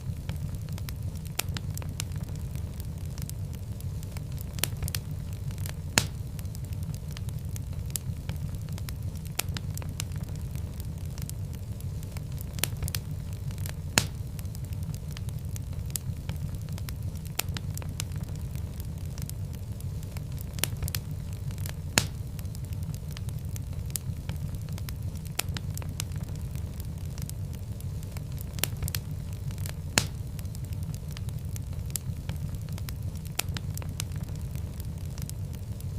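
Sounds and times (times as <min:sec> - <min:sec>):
fire low rumble: 0:00.0 - 0:35.9
wood fire crackling and popping: 0:00.0 - 0:35.9.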